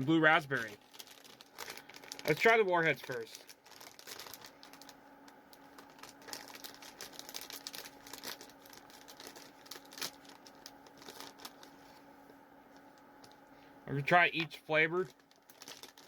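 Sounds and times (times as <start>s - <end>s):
plastic bag crinkling and tearing: 0.1s - 12.0s, 14.7s - 16.0s.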